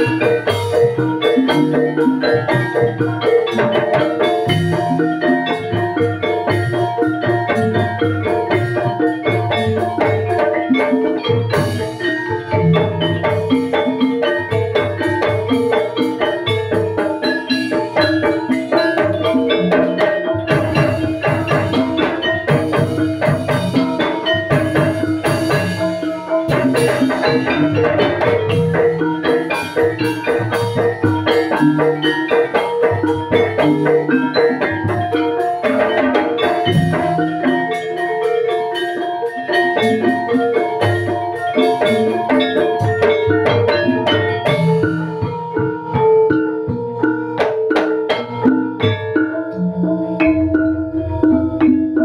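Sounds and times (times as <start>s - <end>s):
hand drum strokes: 0.0s - 52.0s.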